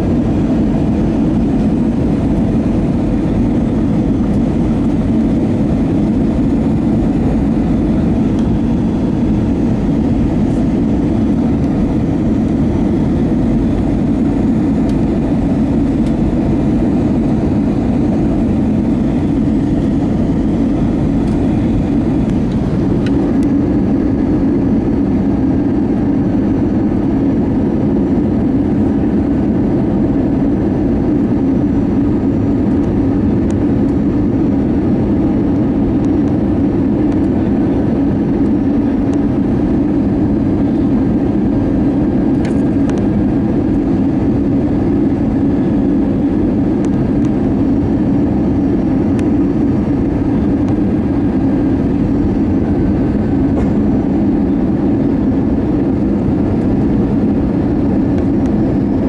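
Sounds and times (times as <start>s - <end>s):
jet cabin engine drone: 0.0s - 59.0s.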